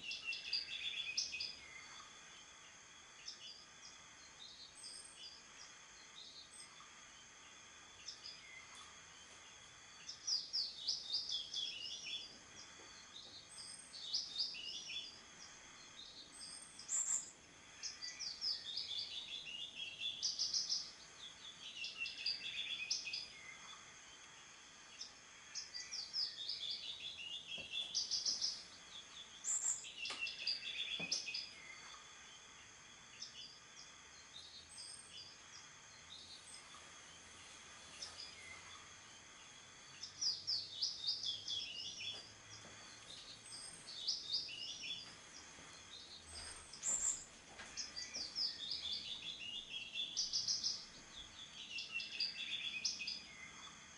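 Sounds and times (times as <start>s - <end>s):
songbirds singing trilled phrases: 0.0s - 53.9s.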